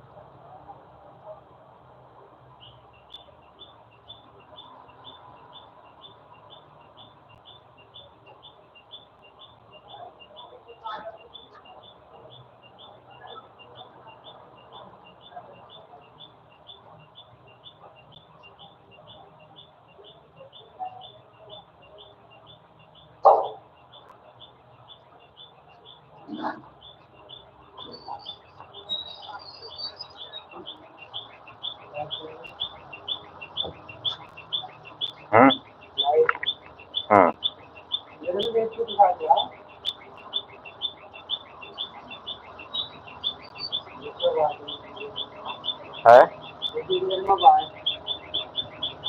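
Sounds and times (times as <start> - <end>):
bird chirping: 2.5 - 49.0.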